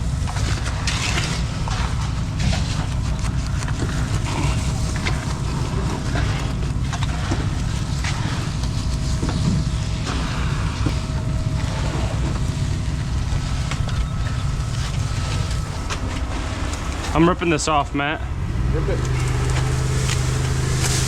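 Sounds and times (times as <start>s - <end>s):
heavy machinery engine rumble: 0.0s - 21.0s.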